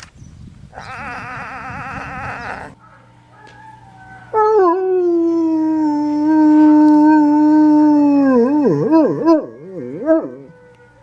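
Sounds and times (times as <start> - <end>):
dog howling: 0.8 - 11.0.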